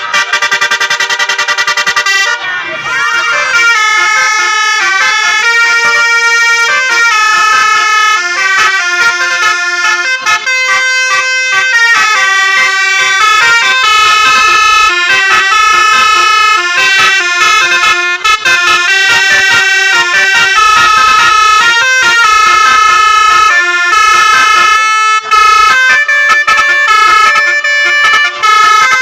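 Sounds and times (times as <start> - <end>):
bus horns playing melodies: 0.0 - 29.0.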